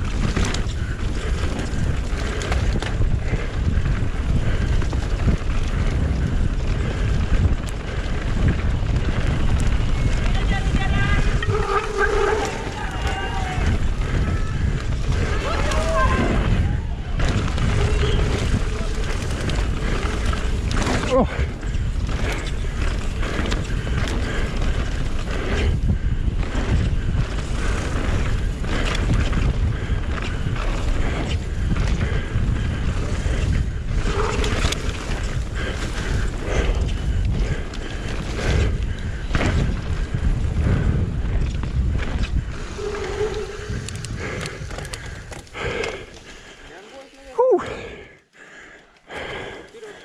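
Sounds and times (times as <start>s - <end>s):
bike knocks and rattles: 0.0s - 43.2s
wind rumbling on microphone: 0.0s - 46.7s.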